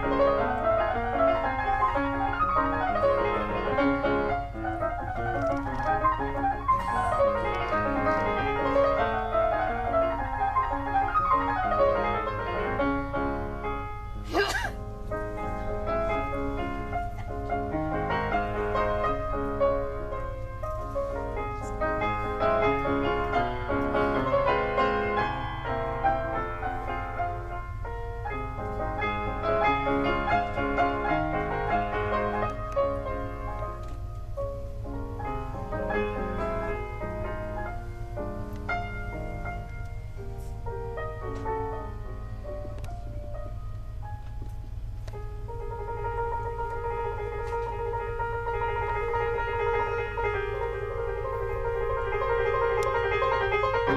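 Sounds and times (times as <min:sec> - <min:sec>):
piano playing quick notes: 0:00.0 - 0:44.2, 0:45.2 - 0:53.9
steady low hum: 0:00.0 - 0:53.9.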